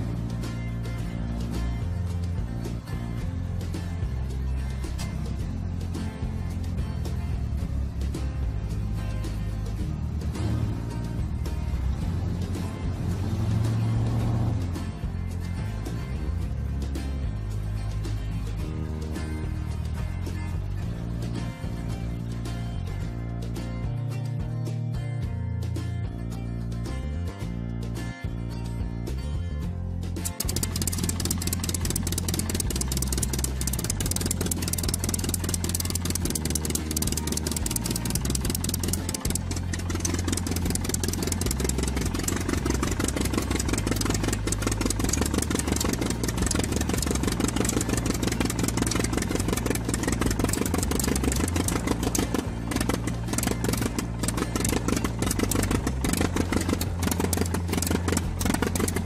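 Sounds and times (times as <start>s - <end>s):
diesel-like engine running: 0.0s - 24.0s, 30.1s - 59.0s.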